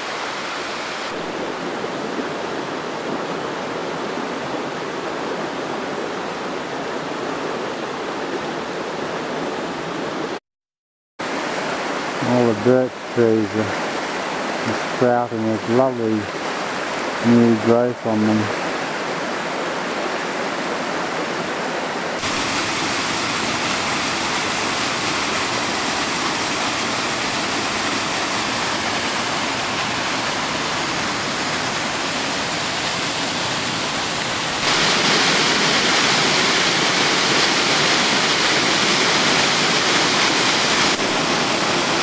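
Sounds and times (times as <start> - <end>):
water rushing over boulders: 0.0 - 10.4, 11.2 - 42.0.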